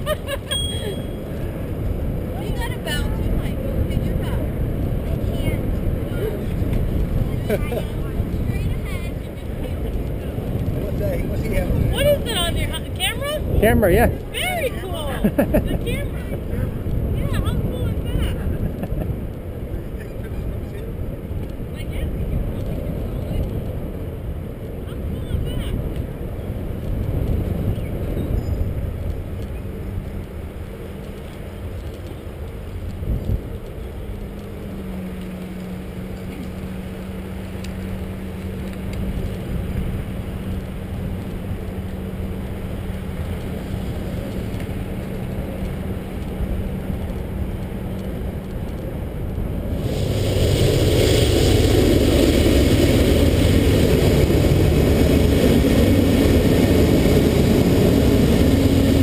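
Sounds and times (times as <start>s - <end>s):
bicycle rolling and wind noise: 0.0s - 59.0s.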